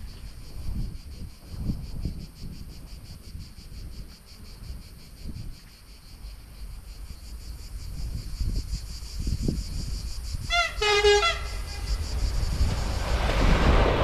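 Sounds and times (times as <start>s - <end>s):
cicadas chirring: 0.0s - 14.0s
wind buffeting microphone: 0.0s - 14.0s.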